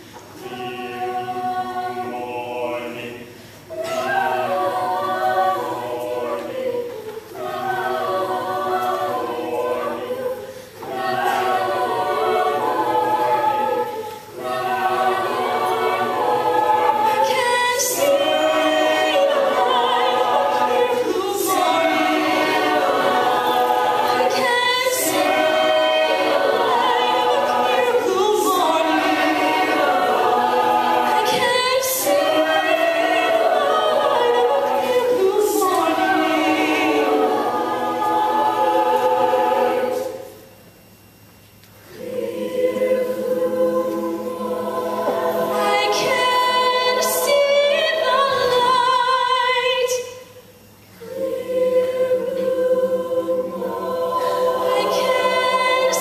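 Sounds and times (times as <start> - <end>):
a cappella group singing: 0.0 - 41.2, 41.8 - 56.0.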